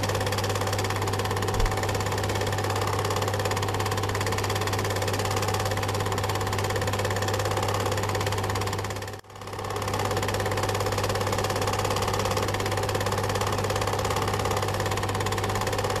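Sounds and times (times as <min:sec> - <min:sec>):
film projector hum: 0:00.0 - 0:16.0.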